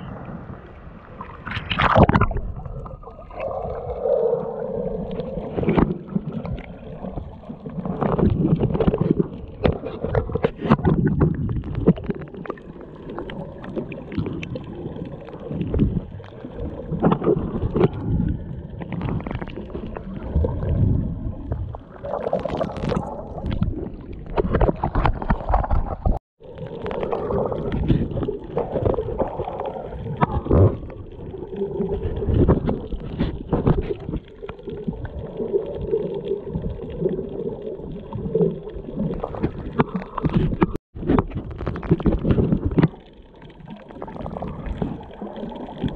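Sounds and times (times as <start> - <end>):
low underwater rumbling: 0.0 - 45.9
underwater gurgling and sloshing: 0.0 - 45.9.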